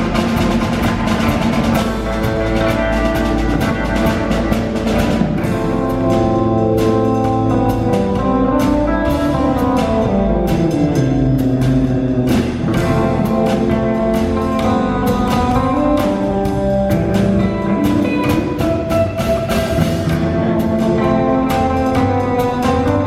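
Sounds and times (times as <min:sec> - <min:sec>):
drums hitting: 0:00.0 - 0:23.0
live band playing: 0:00.0 - 0:23.0.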